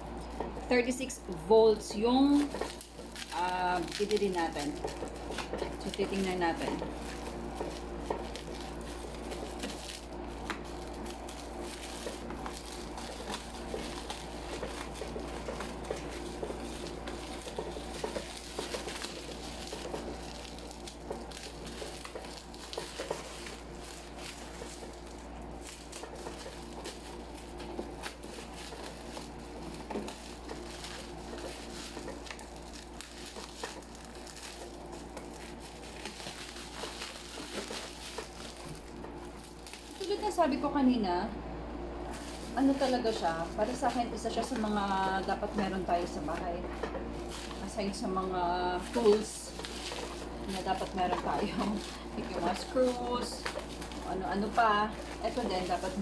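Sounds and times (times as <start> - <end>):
packaging crinkling and rustling: 0.0 - 41.0, 42.0 - 56.0.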